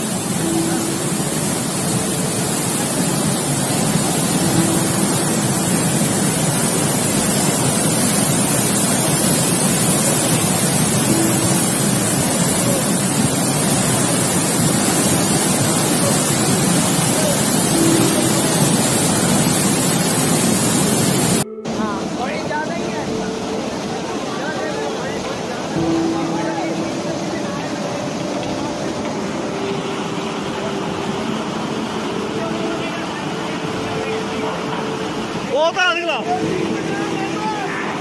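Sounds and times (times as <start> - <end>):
torrent of churning water: 0.0 - 38.0.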